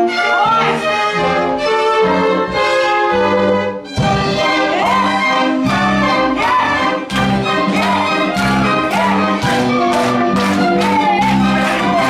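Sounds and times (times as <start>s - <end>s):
symphony orchestra playing: 0.0s - 12.0s.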